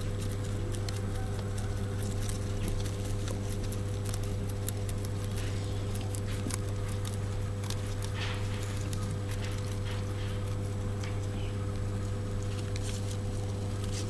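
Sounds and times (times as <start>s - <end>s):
rabbits chewing: 0.0s - 14.0s.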